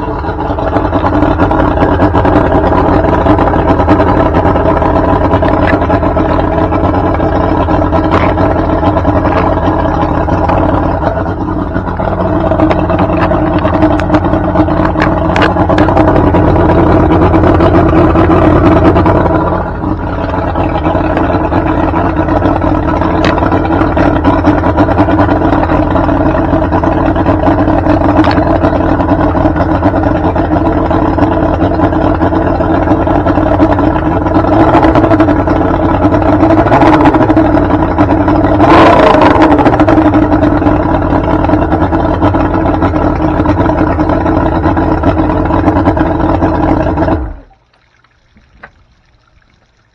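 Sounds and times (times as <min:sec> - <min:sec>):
outboard engine running: 0:00.0 - 0:49.9.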